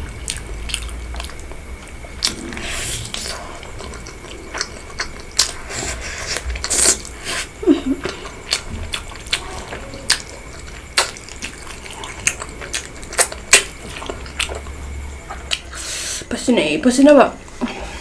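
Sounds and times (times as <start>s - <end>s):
wet chewing and mouth sounds: 0.0s - 16.2s.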